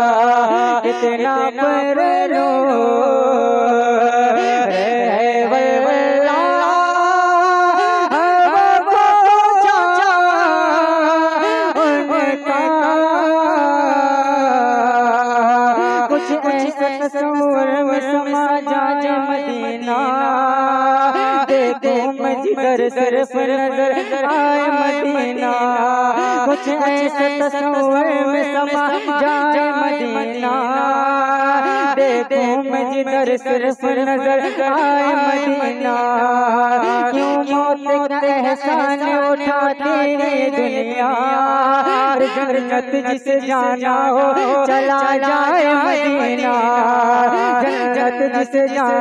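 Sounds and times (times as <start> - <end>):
man singing into a microphone: 0.0 - 49.0.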